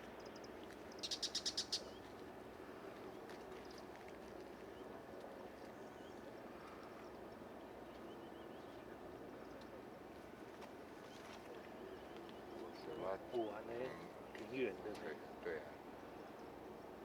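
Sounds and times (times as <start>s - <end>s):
quiet outdoor background noise: 0.0s - 17.0s.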